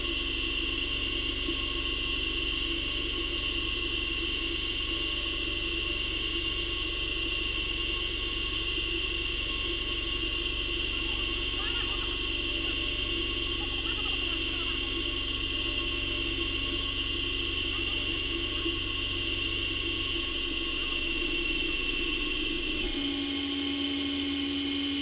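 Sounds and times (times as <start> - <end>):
low machine hum: 0.0 - 25.0
steady lower machine tone: 0.0 - 25.0
welding machine whine: 0.0 - 25.0.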